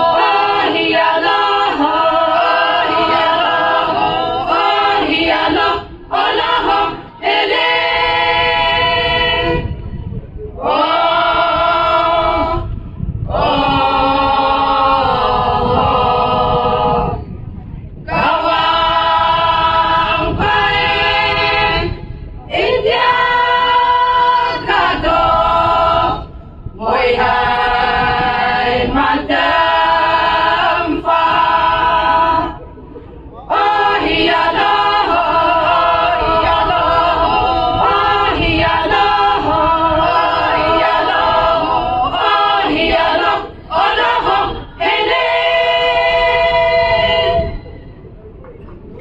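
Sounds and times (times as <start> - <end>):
women singing a cappella: 0.0 - 9.8, 10.6 - 17.3, 18.0 - 32.6, 33.4 - 47.8.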